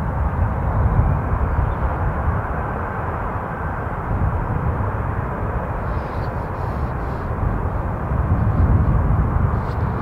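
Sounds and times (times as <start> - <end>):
jet engines on takeoff roll: 0.0 - 10.0.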